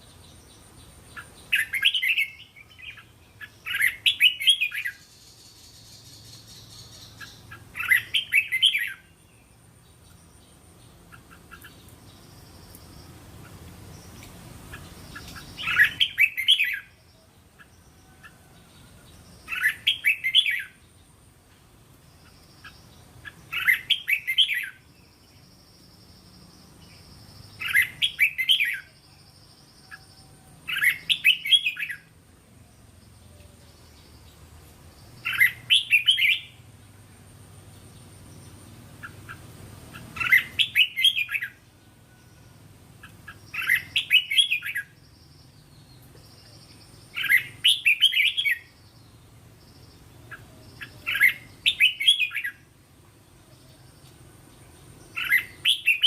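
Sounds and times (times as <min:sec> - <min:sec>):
bulbul singing: 0:00.0 - 0:21.2, 0:21.9 - 0:56.0.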